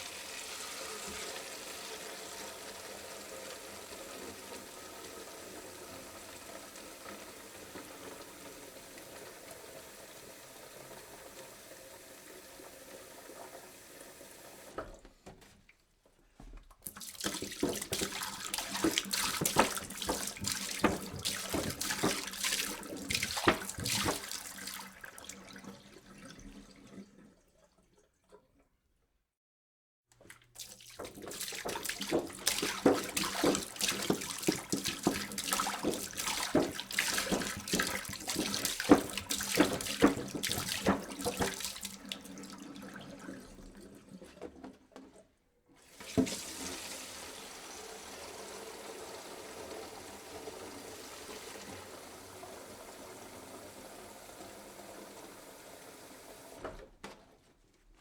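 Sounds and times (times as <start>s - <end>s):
water pouring into a jug: 0.0s - 14.8s, 16.8s - 28.6s, 30.2s - 44.7s, 45.8s - 56.6s.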